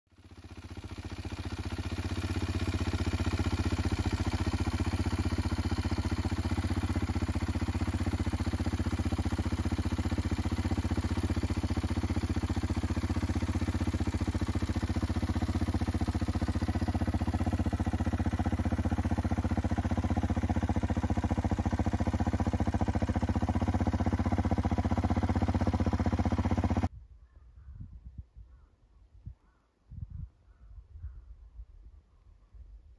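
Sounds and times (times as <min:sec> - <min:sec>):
motorcycle engine running steadily: 0:00.1 - 0:28.7, 0:29.4 - 0:31.7.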